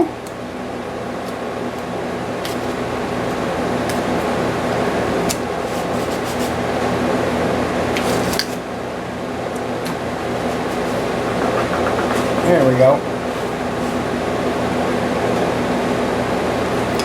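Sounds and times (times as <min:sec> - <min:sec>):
fan running: 0:00.0 - 0:17.0.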